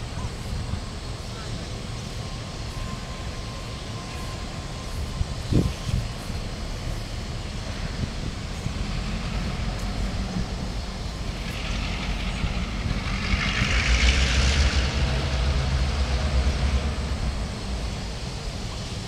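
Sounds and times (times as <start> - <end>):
distant diesel locomotives rumbling: 0.0 - 19.0
wind through leaves: 0.0 - 19.0.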